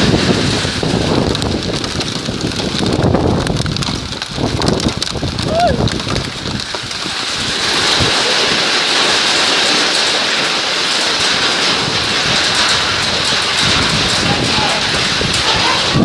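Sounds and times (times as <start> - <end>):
hail and rain falling hard: 0.0 - 16.0.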